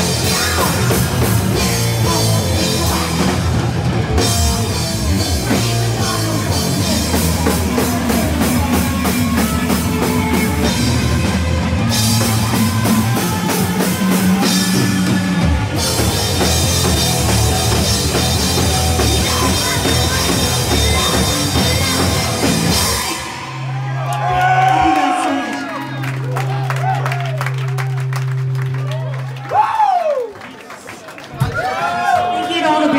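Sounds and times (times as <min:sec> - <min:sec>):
live rock band playing: 0:00.0 - 0:29.5.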